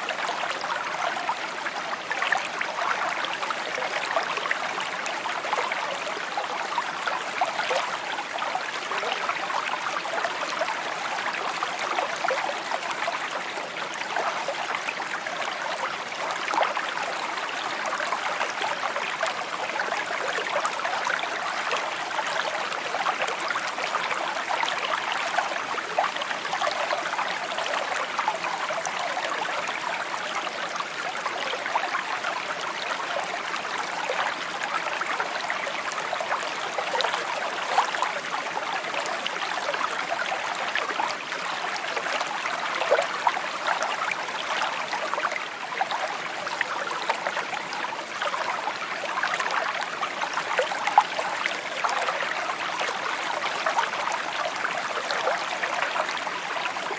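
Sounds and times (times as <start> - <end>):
stream babbling over stones: 0.0 - 56.9.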